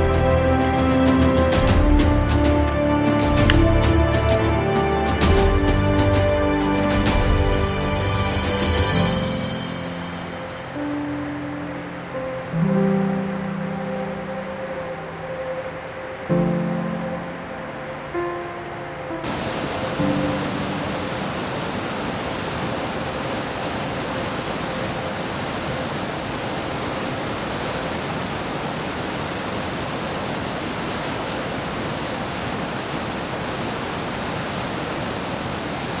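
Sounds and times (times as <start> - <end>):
waterfall cascading over boulders: 0.0 - 17.5, 19.2 - 36.0.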